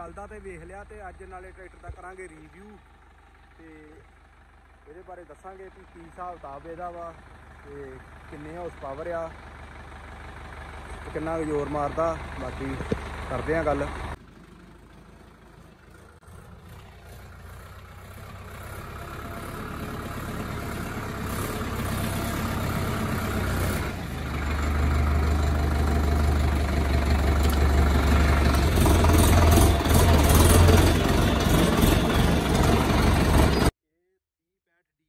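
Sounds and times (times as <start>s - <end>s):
tractor diesel engine running: 0.0s - 33.7s.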